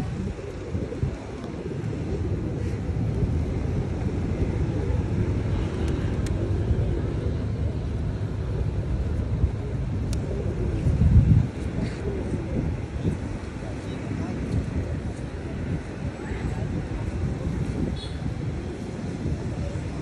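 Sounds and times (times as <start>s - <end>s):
road traffic: 0.0s - 20.0s
wind on microphone: 0.0s - 20.0s.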